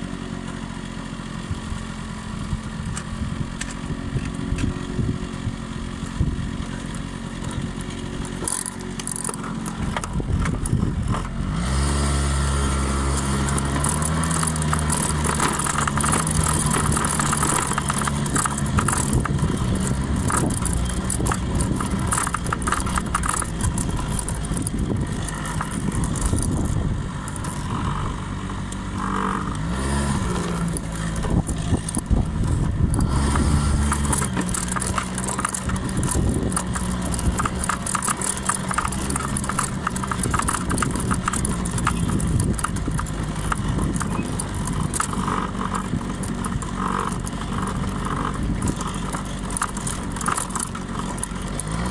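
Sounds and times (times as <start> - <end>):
scooter engine running: 0.0 - 51.9.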